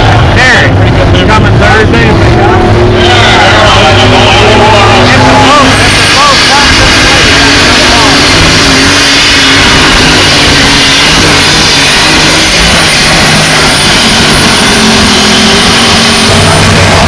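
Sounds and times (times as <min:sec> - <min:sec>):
pulling tractor engine roaring: 0:00.0 - 0:17.0.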